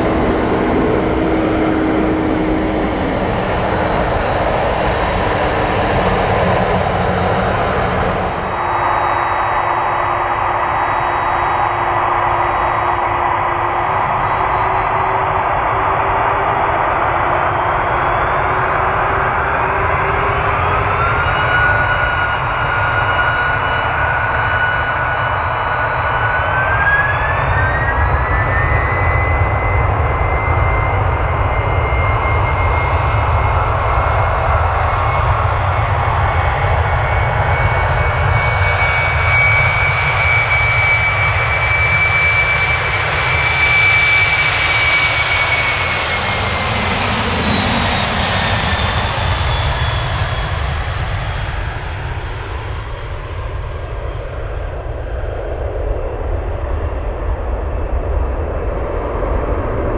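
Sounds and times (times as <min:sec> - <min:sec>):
jet engines whining: 0:00.0 - 0:59.9
low rumble of airliner rolling: 0:00.0 - 0:59.9.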